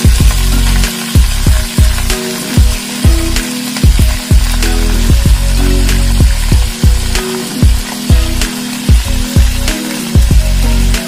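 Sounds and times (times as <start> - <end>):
music with deep drum beat: 0.0 - 11.0.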